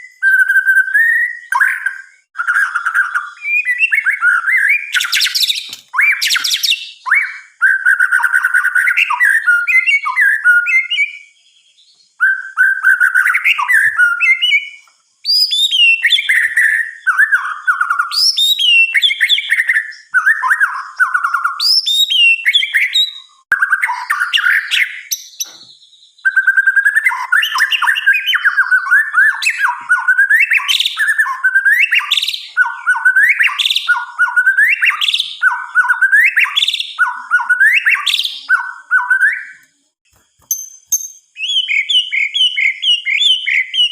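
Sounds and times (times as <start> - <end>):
songbird whistling: 0.0 - 43.9.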